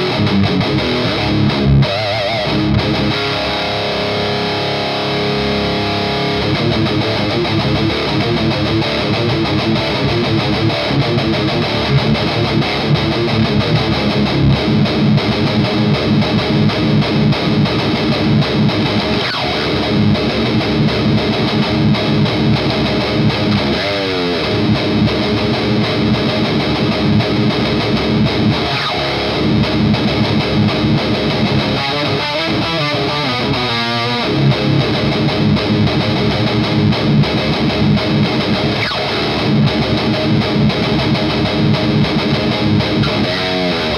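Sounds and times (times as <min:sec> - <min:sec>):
distorted electric guitar riffs: 0:00.0 - 0:43.9.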